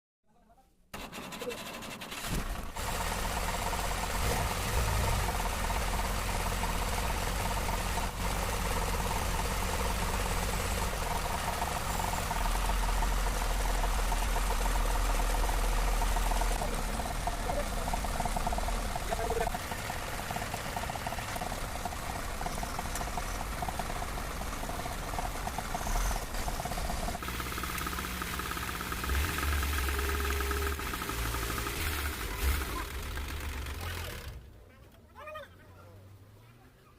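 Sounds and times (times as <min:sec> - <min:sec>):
diesel engine rumbling: 0:01.0 - 0:36.7.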